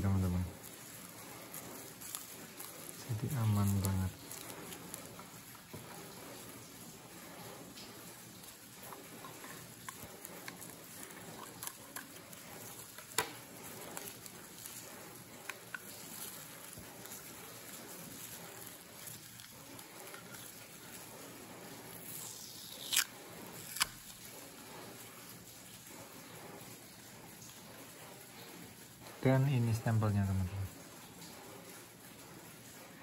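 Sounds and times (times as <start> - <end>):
bubble wrap crinkling: 0.0 - 26.8.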